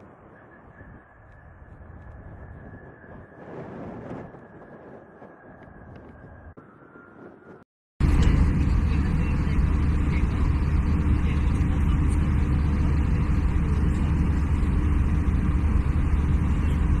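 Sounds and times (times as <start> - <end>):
jet engine drone: 0.0 - 17.0.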